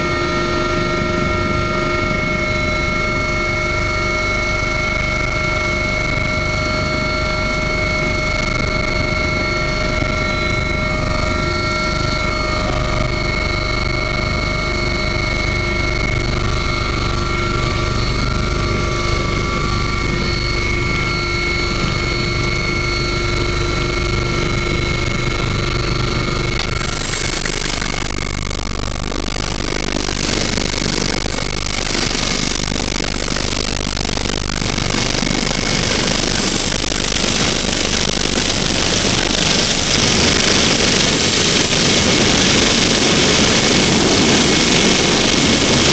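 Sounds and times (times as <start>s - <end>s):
helicopter rotor rumble: 0.0s - 45.9s
helicopter turbine whine: 0.0s - 45.9s.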